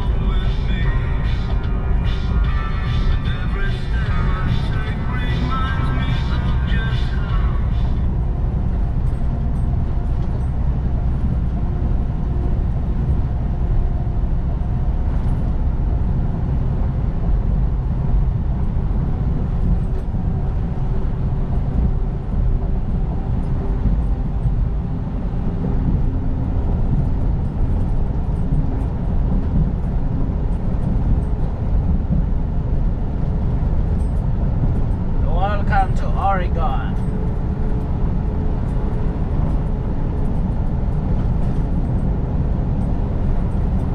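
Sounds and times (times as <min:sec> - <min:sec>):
road noise: 0:00.0 - 0:43.9
truck engine drone: 0:00.0 - 0:43.9.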